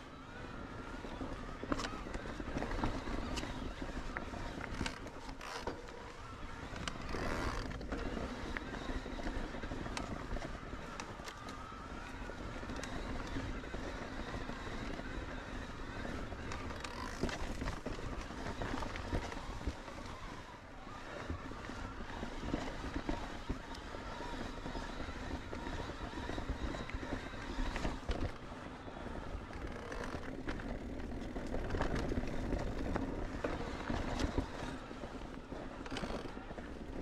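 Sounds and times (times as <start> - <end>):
bike rattles and clicks: 0.0 - 37.0
faint motor whine: 0.0 - 37.0
tyres rumbling on rough trail: 0.0 - 37.0.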